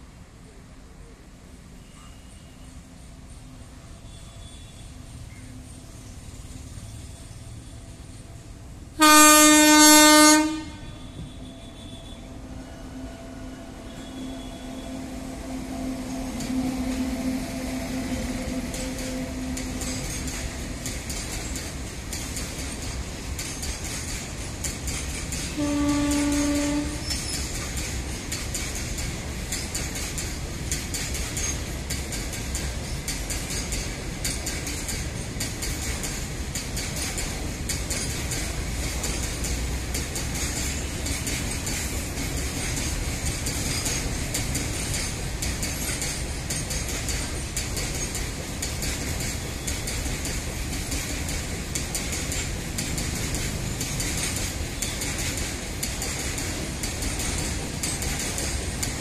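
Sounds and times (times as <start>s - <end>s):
goods train wheels rumbling: 2.8s - 59.0s.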